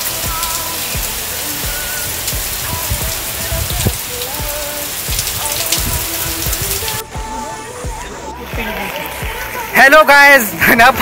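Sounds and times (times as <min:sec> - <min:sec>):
rain on wet ground: 0:00.0 - 0:07.1, 0:07.9 - 0:10.6.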